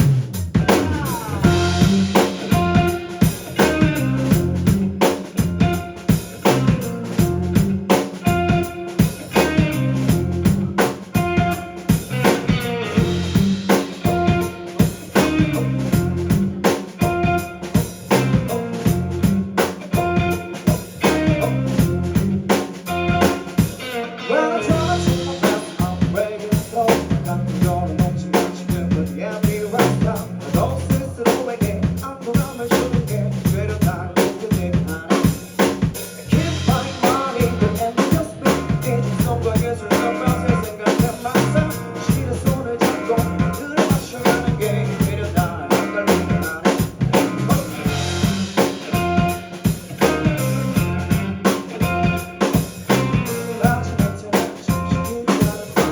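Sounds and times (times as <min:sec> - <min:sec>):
drum kit beat: 0:00.0 - 0:55.9
live band playing: 0:00.0 - 0:55.9.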